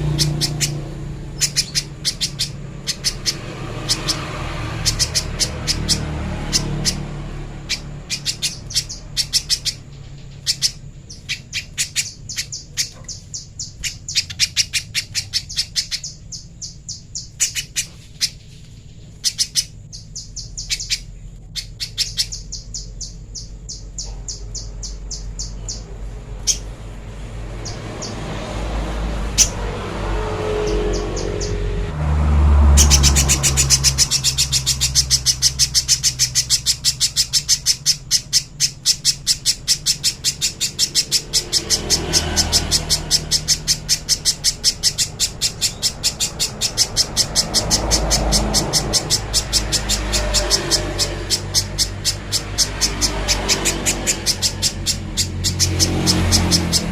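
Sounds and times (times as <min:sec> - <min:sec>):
bird calling with sharp chips: 0:00.0 - 0:26.8, 0:27.4 - 0:31.8, 0:32.7 - 0:56.9.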